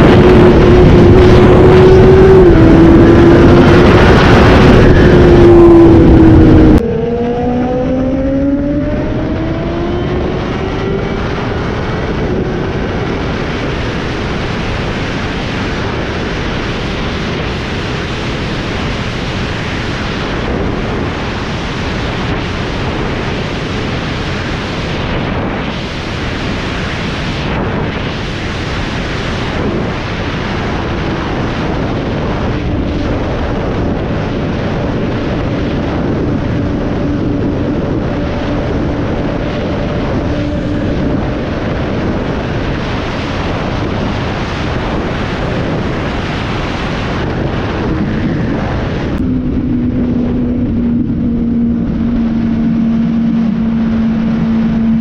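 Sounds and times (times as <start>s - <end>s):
motorcycle engine revving: 0.0s - 28.2s, 29.4s - 55.0s
wind rush: 0.0s - 55.0s.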